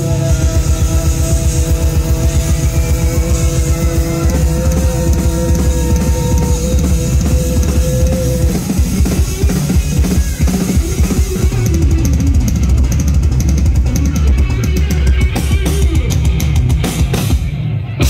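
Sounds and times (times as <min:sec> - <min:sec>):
live rock band playing: 0:00.0 - 0:18.0
heavy kick drum: 0:00.4 - 0:17.3.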